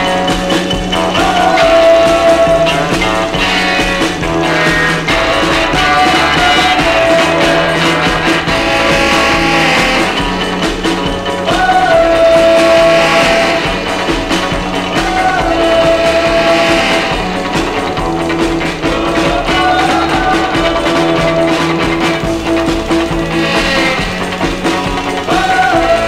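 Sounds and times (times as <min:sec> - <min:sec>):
rock and roll music: 0:00.0 - 0:26.0.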